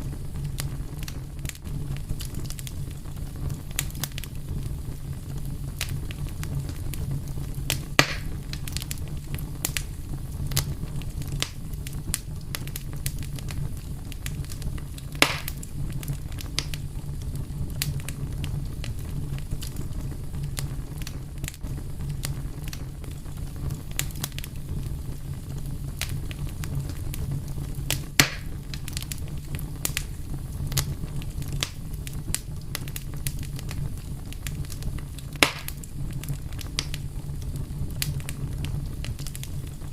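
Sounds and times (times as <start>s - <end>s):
loud fire pops: 0.0s - 39.9s
low rumble of fire: 0.0s - 39.9s
wood fire crackling: 0.0s - 39.9s.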